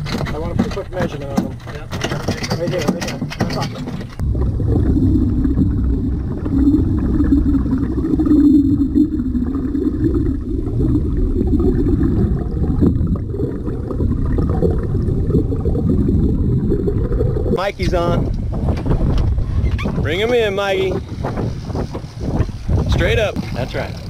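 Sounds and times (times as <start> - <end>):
boat engine underwater: 2.5 - 24.0
muffled underwater rumble: 4.1 - 24.0.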